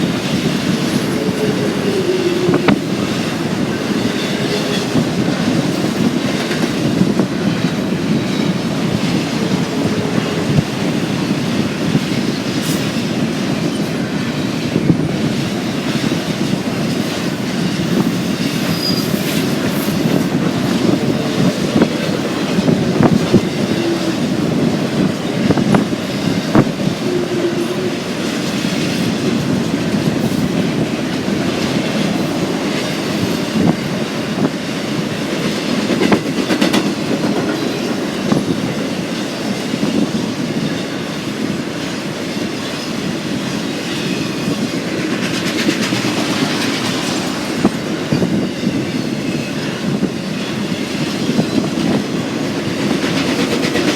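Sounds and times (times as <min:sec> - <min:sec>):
train wheel squeals: 0:00.0 - 0:30.9, 0:31.6 - 0:53.9
train wheels clacking over rail joints: 0:00.0 - 0:53.9.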